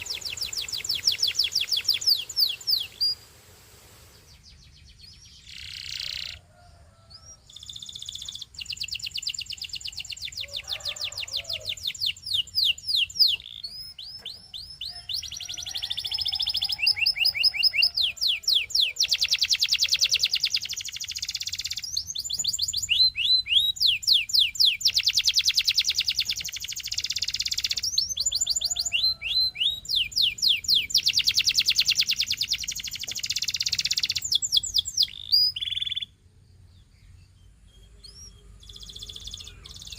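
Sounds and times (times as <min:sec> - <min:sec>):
canary singing trills: 0:00.0 - 0:03.2, 0:04.2 - 0:39.9.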